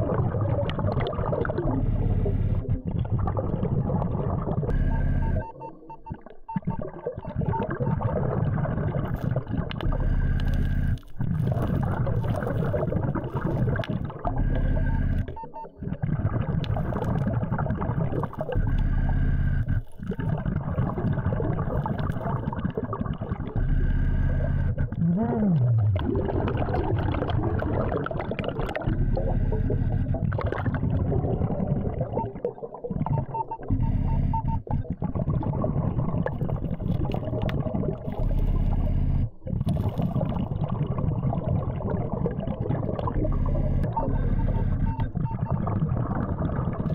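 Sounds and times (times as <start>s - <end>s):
underwater low rumble and hum: 0.0s - 46.9s.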